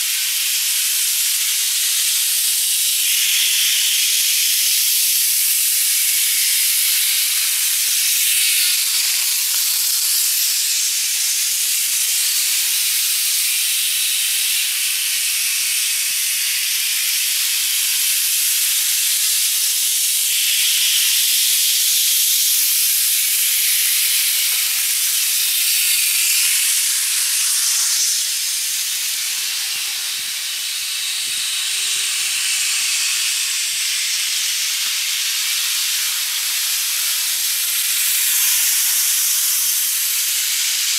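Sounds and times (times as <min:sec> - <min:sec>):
model train whirring on track: 0:00.0 - 0:40.9.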